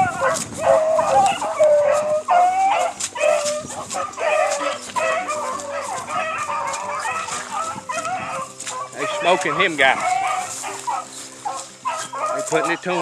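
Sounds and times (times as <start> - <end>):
hounds baying and yipping: 0.0 - 13.0.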